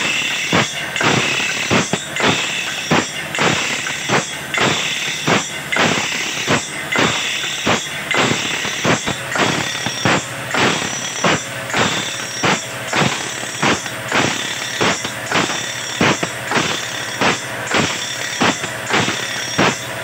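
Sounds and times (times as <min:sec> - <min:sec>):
abrasive wheel striking: 0:00.0 - 0:20.0
grinding hiss: 0:00.0 - 0:20.0
steady high whine: 0:00.0 - 0:20.0.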